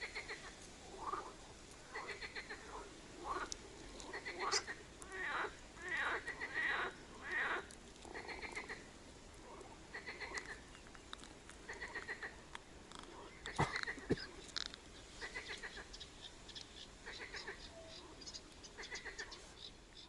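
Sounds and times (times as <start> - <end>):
frogs croaking: 0.0 - 20.0.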